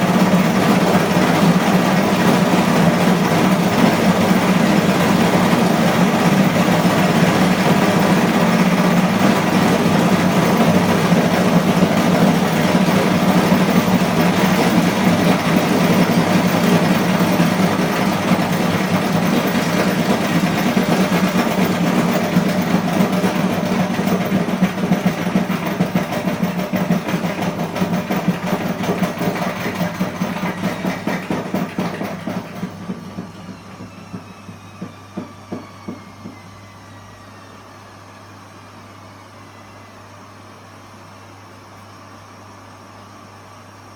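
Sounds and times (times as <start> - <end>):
washing machine spinning: 0.0 - 40.1.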